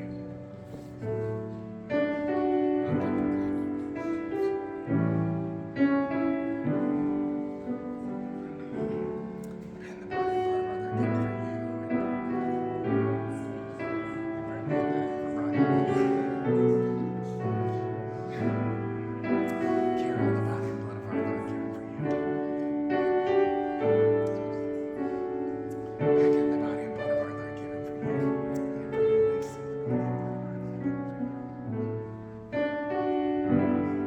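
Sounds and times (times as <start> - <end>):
piano playing slow chords: 0.0 - 34.0.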